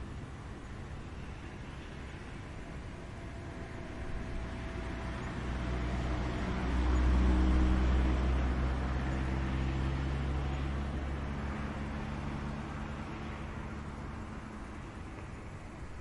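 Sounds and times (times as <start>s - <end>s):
distant engine droning past: 0.0s - 16.0s.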